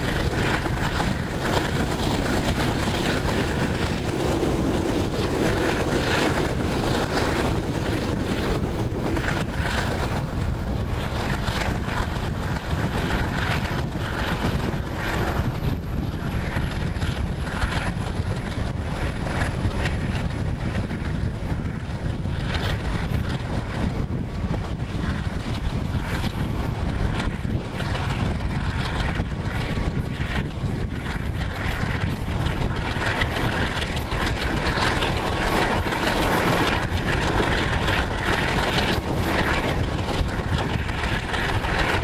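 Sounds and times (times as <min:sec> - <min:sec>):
train carriages rumbling on track: 0:00.0 - 0:42.0
wind buffeting microphone: 0:00.0 - 0:42.0.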